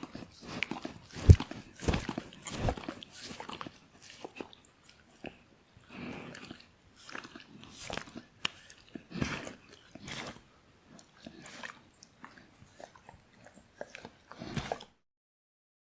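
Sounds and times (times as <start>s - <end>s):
dog chewing: 0.0s - 14.9s.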